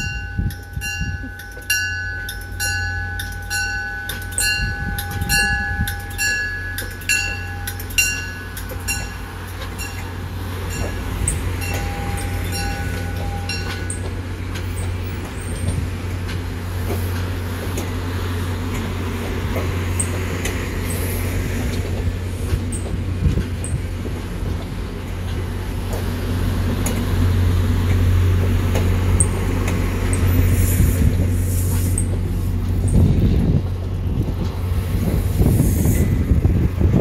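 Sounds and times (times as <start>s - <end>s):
diesel locomotive drone: 0.0s - 37.0s.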